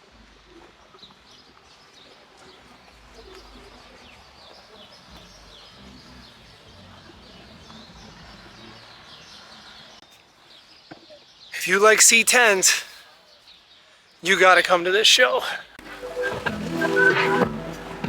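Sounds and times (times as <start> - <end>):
birds chirping: 3.2 - 18.0.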